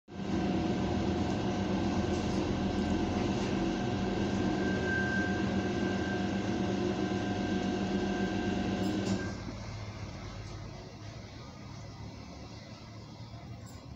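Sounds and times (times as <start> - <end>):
steady machine hum: 0.1 - 13.9.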